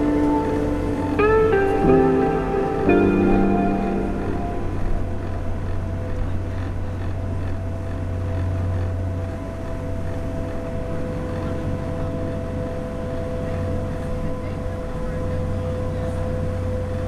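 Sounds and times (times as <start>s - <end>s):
engine drone: 0.0s - 17.0s
faint steady whine: 0.0s - 17.0s.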